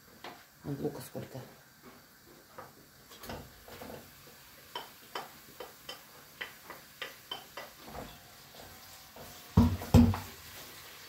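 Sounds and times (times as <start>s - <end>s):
meat frying: 0.0s - 11.0s.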